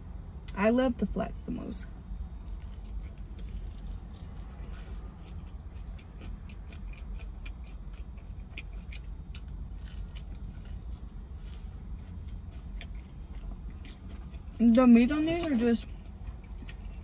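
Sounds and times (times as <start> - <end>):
steady low rumble: 0.0 - 17.0
chewing chicken wing: 2.4 - 14.7, 15.4 - 17.0.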